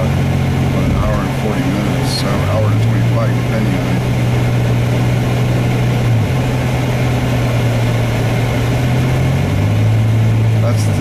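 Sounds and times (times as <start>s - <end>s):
car engine drone: 0.0s - 11.0s
road noise: 0.0s - 11.0s.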